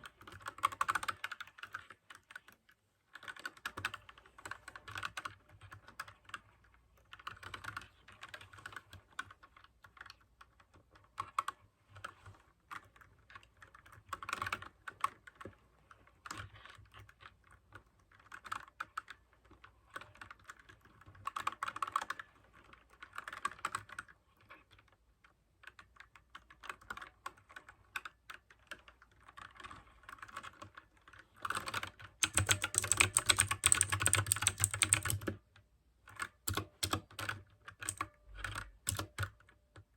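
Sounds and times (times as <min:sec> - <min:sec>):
typing on mechanical keyboard: 0:00.0 - 0:25.0, 0:25.6 - 0:39.9.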